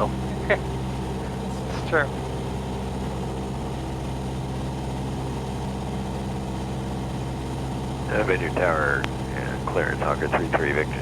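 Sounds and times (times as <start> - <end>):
light aircraft engine droning in cabin: 0.0 - 11.0.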